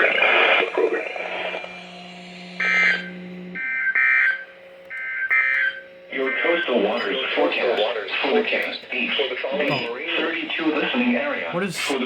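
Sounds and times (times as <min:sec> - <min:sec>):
harsh buzzing data bursts: 0:00.0 - 0:12.0
low steady hum: 0:00.0 - 0:12.0.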